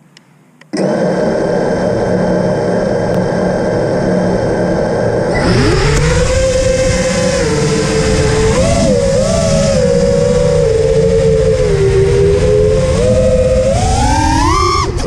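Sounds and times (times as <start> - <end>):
drone motors and propellers whining: 0.7 - 15.0.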